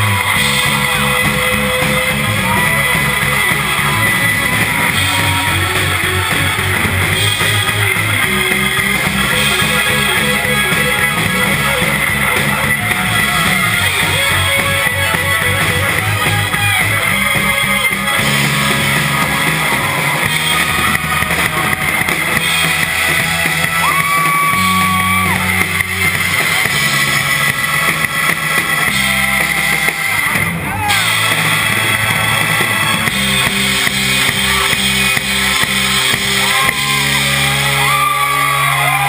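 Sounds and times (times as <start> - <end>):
bass line: 0.0 - 39.0
rock band playing loudly: 0.0 - 39.0.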